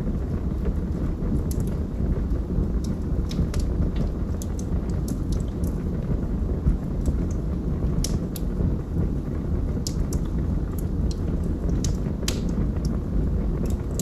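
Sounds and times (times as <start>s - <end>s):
fire crackles and pops: 0.0s - 14.0s
low rumble of burning: 0.0s - 14.0s.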